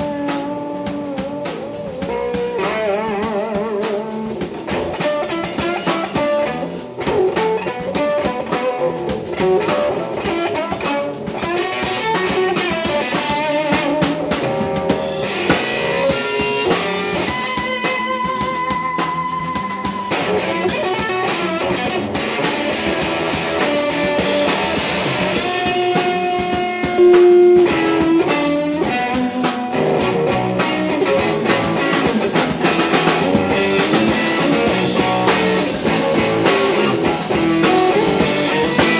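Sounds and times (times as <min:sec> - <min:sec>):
bass guitar: 0:00.0 - 0:38.9
drum kit: 0:00.0 - 0:38.9
electric guitar lead lines: 0:00.0 - 0:38.9.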